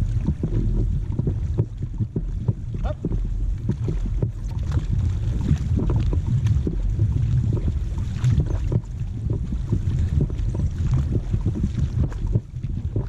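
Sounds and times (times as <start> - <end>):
paddle strokes: 0.0 - 13.0
water splashing: 0.0 - 13.0
wind on microphone: 0.0 - 13.0.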